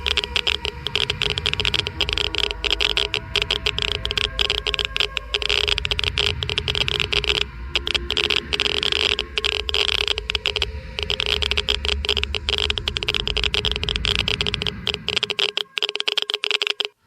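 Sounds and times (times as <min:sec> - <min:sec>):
low rumble: 0:00.0 - 0:15.4
geiger counter clicking rapidly: 0:00.0 - 0:17.0.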